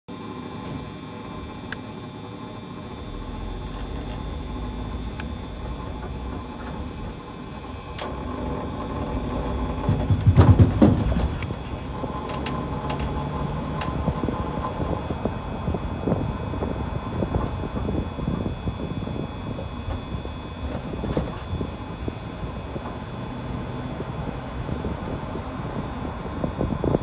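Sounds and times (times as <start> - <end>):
truck road and engine rumble: 0.1 - 27.0
vehicle rattle: 2.4 - 27.0.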